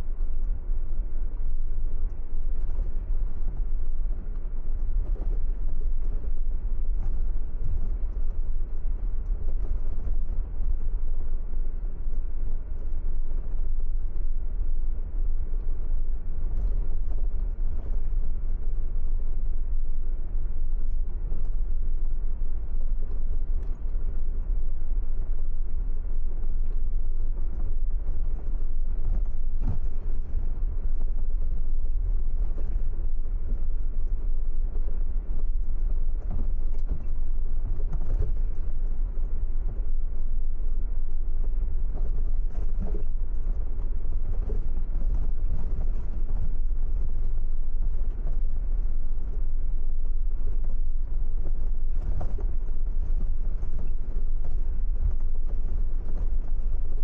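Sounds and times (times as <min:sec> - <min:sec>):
faint light ticks: 0:00.0 - 0:57.0.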